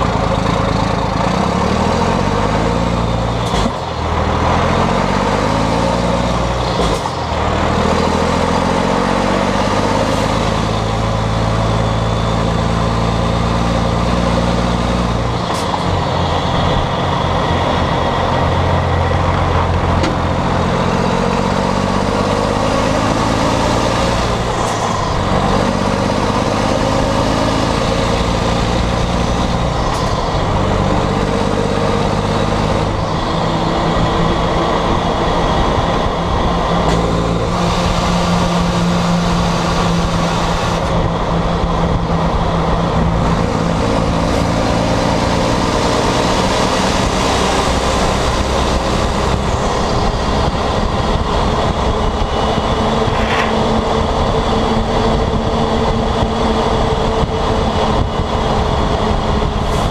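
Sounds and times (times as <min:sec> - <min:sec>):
truck diesel engine driving: 0:00.0 - 0:59.9.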